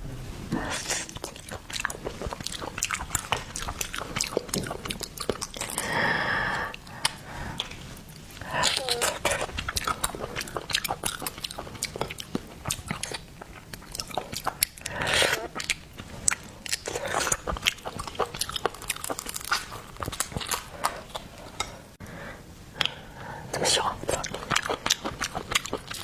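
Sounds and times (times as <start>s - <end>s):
chewing and crunching seafood: 0.6s - 22.0s, 23.6s - 26.0s.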